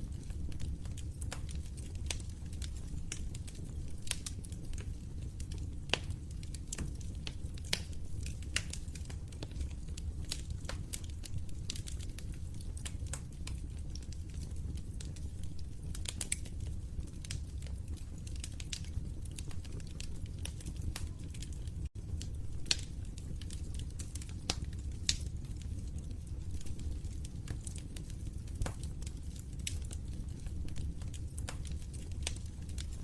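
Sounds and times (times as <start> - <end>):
low rumble of burning: 0.0 - 33.0
wood fire pops and snaps: 0.0 - 33.0.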